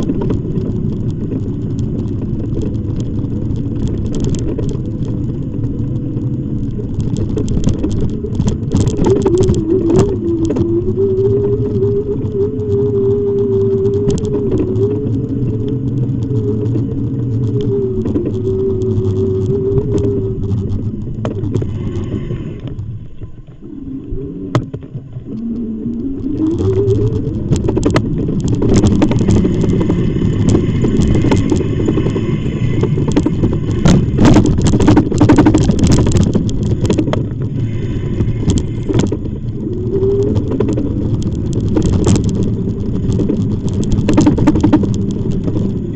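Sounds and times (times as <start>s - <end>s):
rattles over bumps: 0.0s - 45.9s
wind and road noise: 0.0s - 45.9s.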